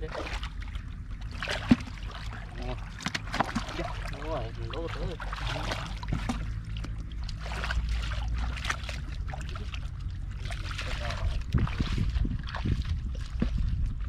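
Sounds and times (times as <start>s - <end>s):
steady low hum: 0.0s - 14.0s
water splashing and sloshing: 0.0s - 14.0s.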